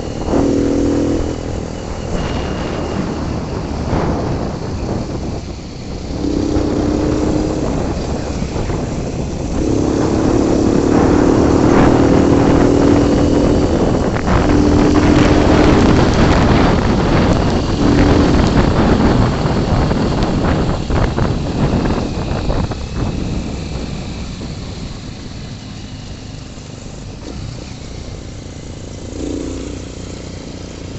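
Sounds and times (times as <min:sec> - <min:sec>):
motorbike engine running: 0:00.0 - 0:30.9
wind noise on microphone: 0:00.0 - 0:30.9.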